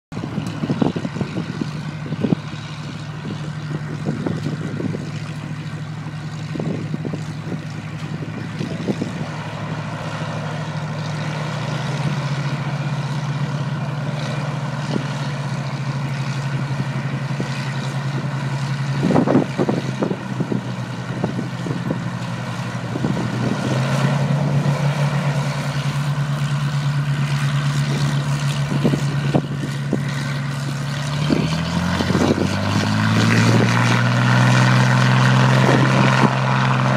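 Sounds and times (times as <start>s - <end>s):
propeller plane engines running: 0.1s - 36.9s.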